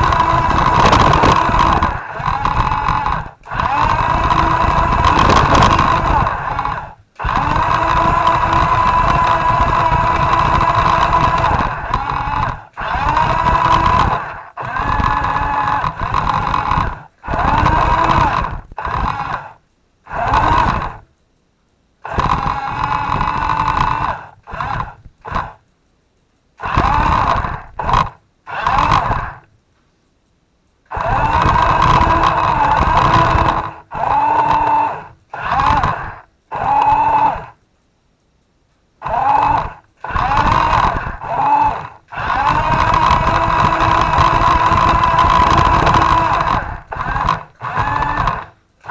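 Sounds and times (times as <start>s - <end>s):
toy truck motor whining: 0.0s - 21.1s, 22.0s - 25.6s, 26.6s - 29.5s, 30.8s - 37.6s, 39.0s - 48.9s.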